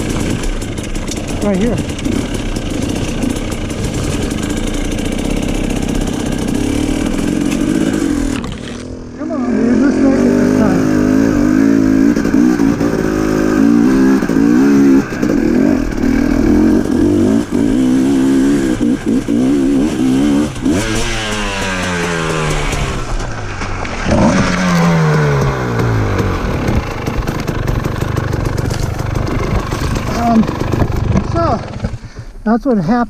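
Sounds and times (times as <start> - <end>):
dirt bike engine revving: 0.0 - 32.1.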